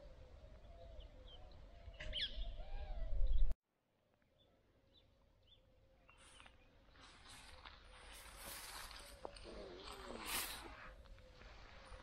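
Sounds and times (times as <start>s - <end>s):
birds chirping: 0.0s - 3.6s, 4.3s - 12.0s.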